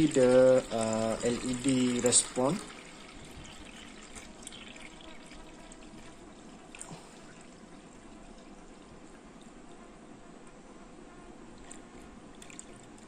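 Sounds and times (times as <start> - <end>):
water pouring into plastic basin: 0.0 - 9.5, 11.6 - 13.0.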